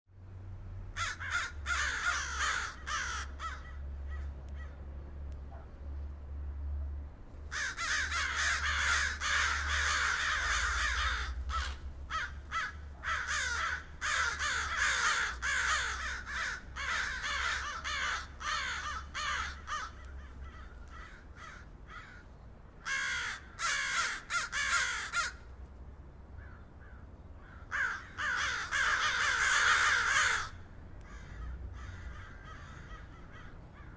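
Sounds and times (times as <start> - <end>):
crows cawing: 1.0 - 4.8, 7.5 - 25.5, 26.4 - 33.9.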